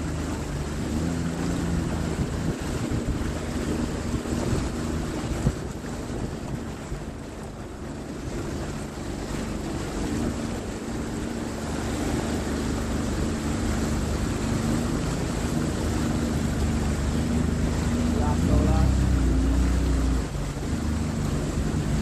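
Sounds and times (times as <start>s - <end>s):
jet ski engine running: 0.0s - 22.0s
rushing water: 0.0s - 22.0s
wind buffeting microphone: 0.0s - 22.0s.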